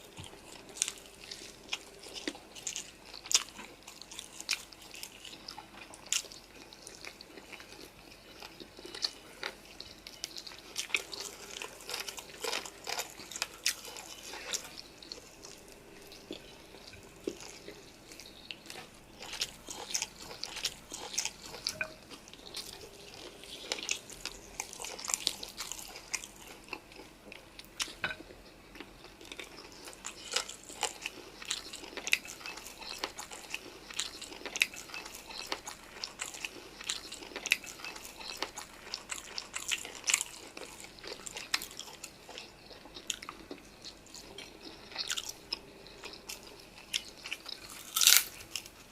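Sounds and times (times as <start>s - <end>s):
crunchy chewing and biting: 0.0s - 48.9s.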